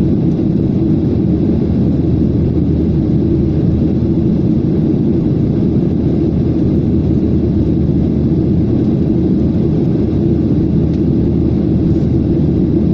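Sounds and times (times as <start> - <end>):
jet airliner cabin rumble: 0.0 - 12.9.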